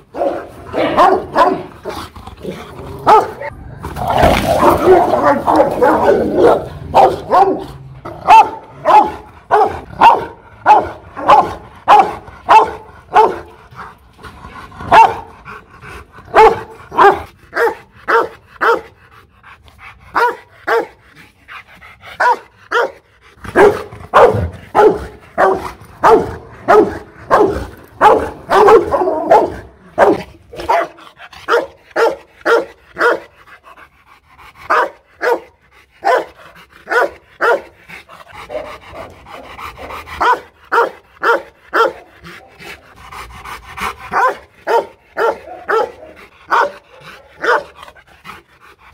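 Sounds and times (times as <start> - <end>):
dog barking aggressively: 0.1 - 3.5, 4.1 - 13.6, 14.8 - 15.4, 16.3 - 19.0, 20.1 - 21.0, 22.2 - 33.4, 34.7 - 42.8, 43.8 - 48.0.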